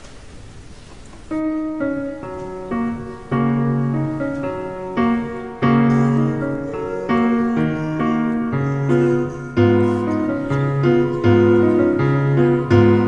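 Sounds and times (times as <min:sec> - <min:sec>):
faint hiss: 0:00.0 - 0:13.0
keyboard playing blocky chords: 0:01.4 - 0:13.0.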